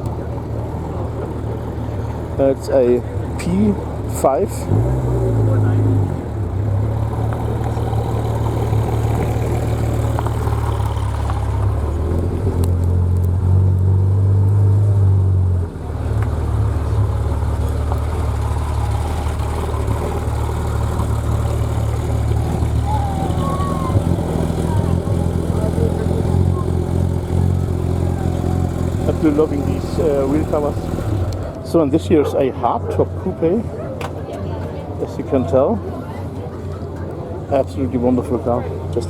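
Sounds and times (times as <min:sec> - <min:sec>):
car engine drone: 0:00.0 - 0:39.0.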